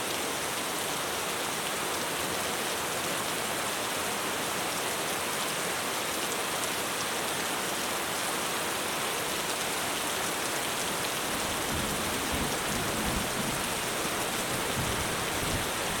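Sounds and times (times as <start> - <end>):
heavy rain on a roof: 0.0 - 16.0.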